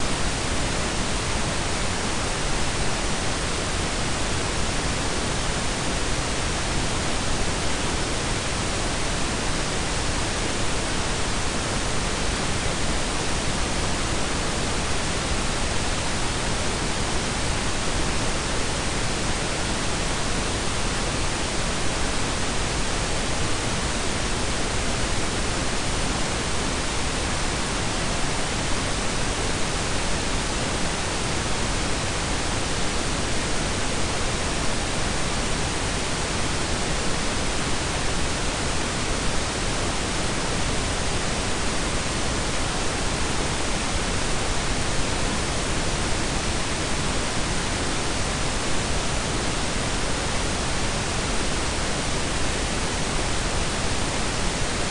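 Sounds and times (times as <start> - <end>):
synthetic noise hiss and rumble: 0.0 - 54.9.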